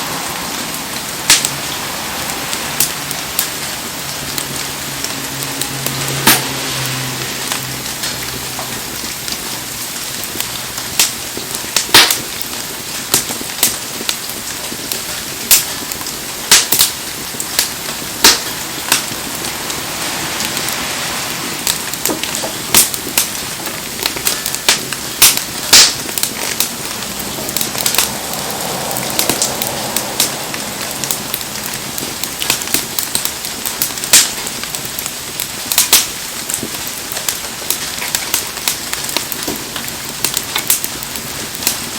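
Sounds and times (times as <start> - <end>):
burning wood popping and crackling: 0.0 - 41.9
heavy rain hissing: 0.0 - 41.9.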